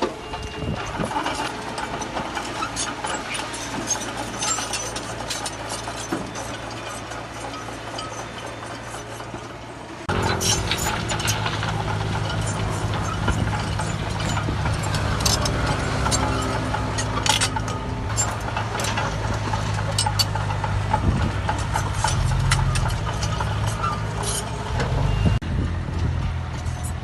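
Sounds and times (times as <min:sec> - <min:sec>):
metal clanks and clicks: 0:00.0 - 0:25.4
diesel machinery running: 0:00.0 - 0:27.0.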